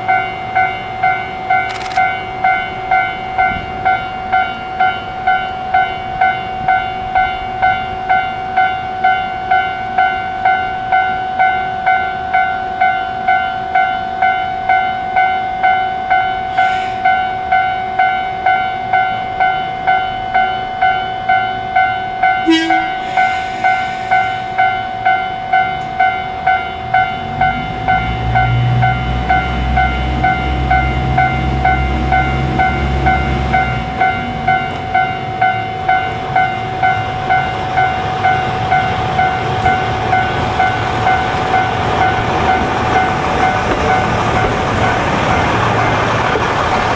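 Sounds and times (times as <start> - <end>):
diesel train rumble: 0.0 - 46.9
level-crossing warning bell: 0.0 - 46.9.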